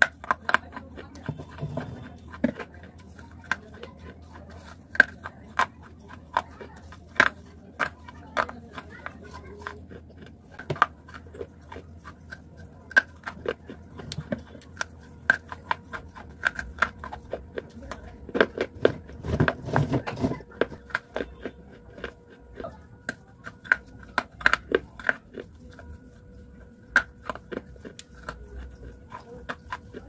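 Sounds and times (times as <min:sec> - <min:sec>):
person chewing hard clay: 0:00.0 - 0:30.0.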